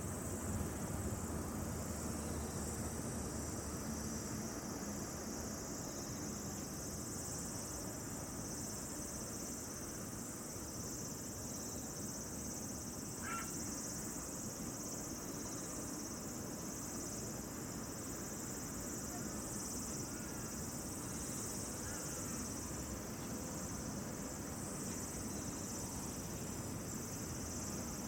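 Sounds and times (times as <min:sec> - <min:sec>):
crickets chorus: 0:00.0 - 0:28.0.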